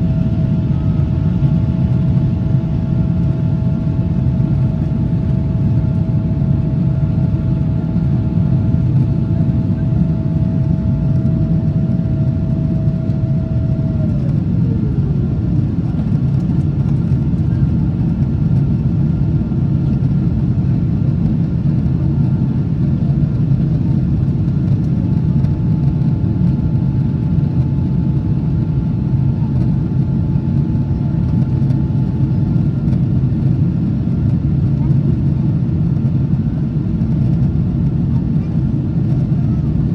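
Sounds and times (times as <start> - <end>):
jet engine and airflow roar: 0.0 - 39.9
steady whine: 0.0 - 39.9.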